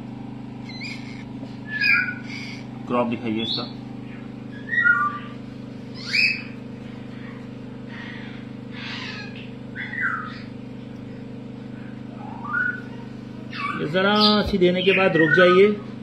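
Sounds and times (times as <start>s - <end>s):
steady low hum: 0.0s - 16.0s
parrot chick chirping: 0.6s - 2.8s, 3.4s - 10.5s, 11.8s - 15.8s.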